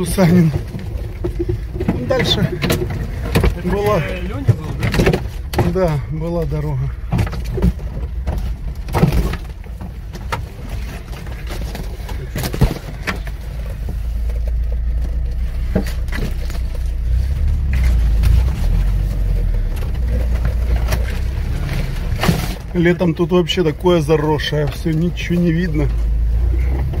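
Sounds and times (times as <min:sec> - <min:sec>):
knocks and rattles from bumps: 0:00.0 - 0:27.0
vehicle engine rumble: 0:00.0 - 0:27.0.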